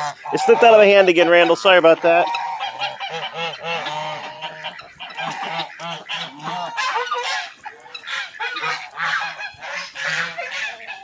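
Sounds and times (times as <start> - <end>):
poultry calling: 0.0 - 11.0.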